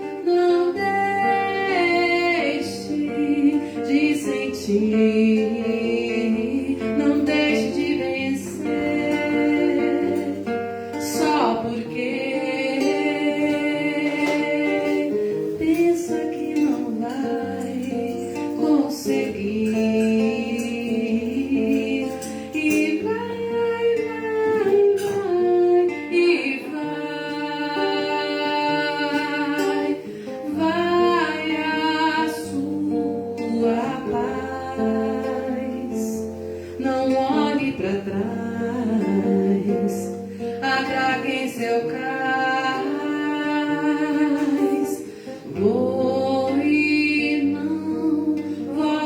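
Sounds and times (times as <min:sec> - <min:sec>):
acoustic guitar: 0:00.0 - 0:49.0.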